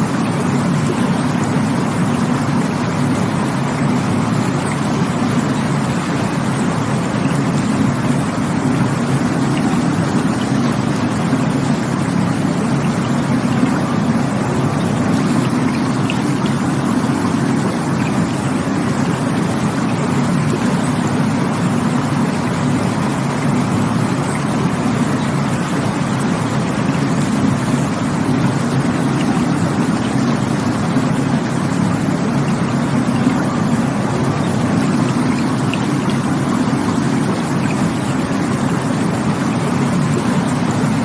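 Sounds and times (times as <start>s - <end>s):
stream water rushing: 0.0s - 41.0s.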